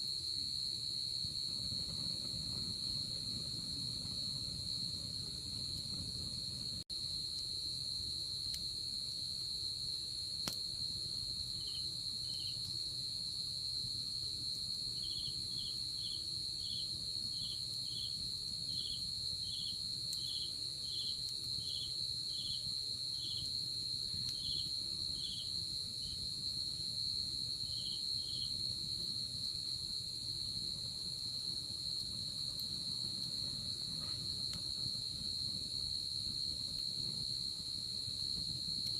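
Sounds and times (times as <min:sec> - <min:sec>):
insect chirping: 0:00.1 - 0:38.9.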